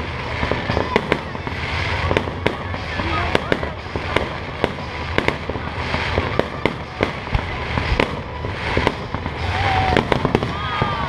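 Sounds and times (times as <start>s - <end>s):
firework crackling: 0.0s - 11.0s.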